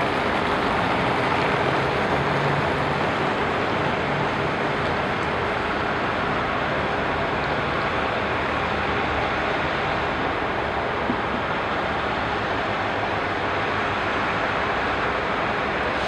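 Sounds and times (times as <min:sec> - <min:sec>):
diesel railcar rumbling: 0:00.0 - 0:16.0.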